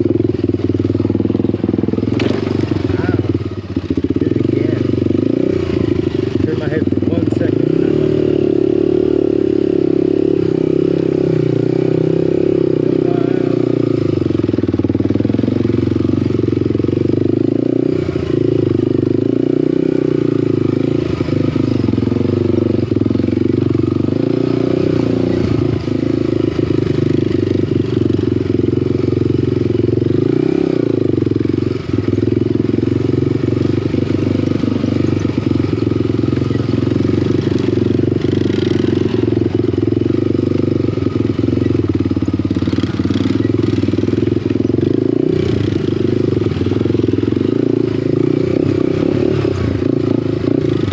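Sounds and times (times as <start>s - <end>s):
small off-road engine running: 0.0s - 50.9s.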